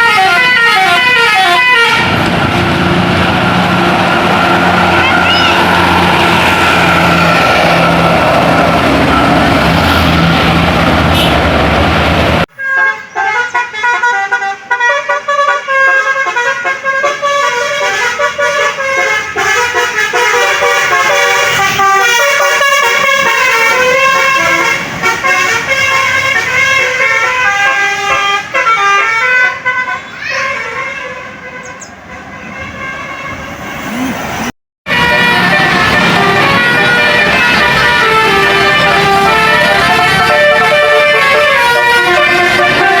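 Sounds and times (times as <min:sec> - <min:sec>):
engine and road noise: 0:00.0 - 0:43.0
multi-tone bus horns: 0:00.0 - 0:43.0.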